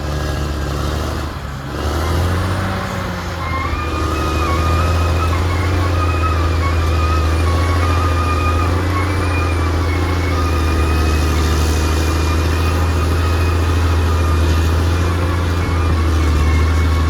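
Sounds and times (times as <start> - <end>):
bulldozer diesel engine droning: 0.0 - 17.0.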